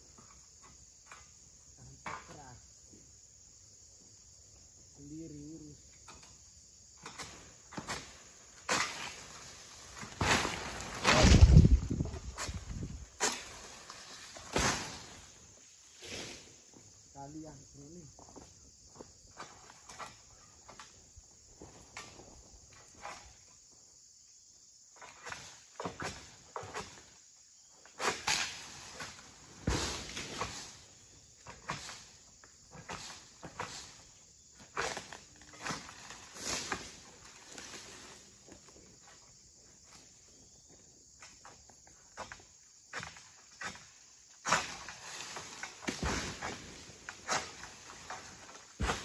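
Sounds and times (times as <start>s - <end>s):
high insect hiss: 0.0s - 49.0s.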